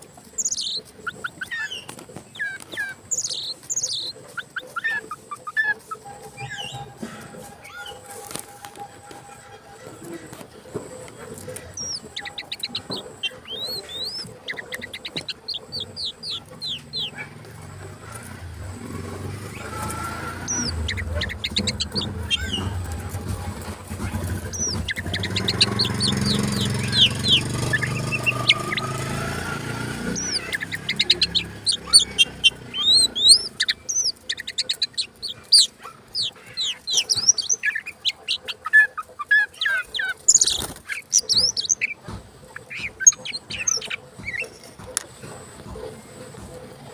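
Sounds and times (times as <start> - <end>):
magpie-robin singing: 0.0 - 44.9.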